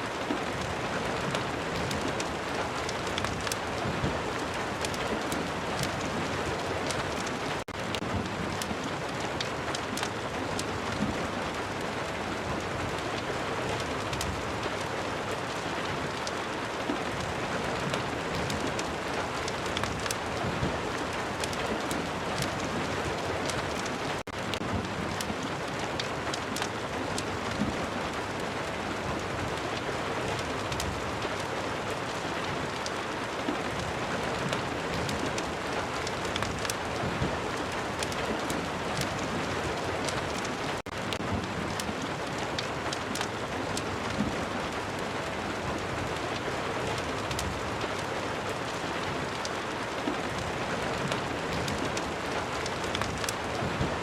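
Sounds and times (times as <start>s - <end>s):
steady rain: 0.0s - 54.0s
fire crackling: 0.2s - 54.0s.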